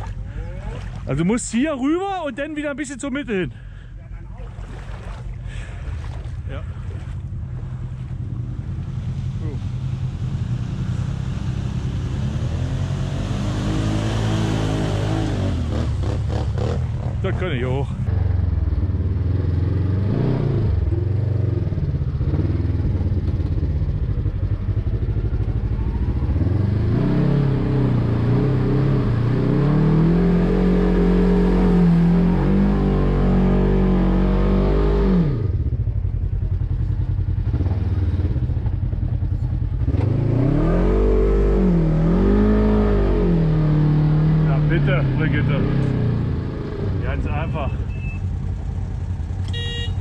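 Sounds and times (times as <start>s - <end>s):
buggy engine revving: 5.5s - 50.0s.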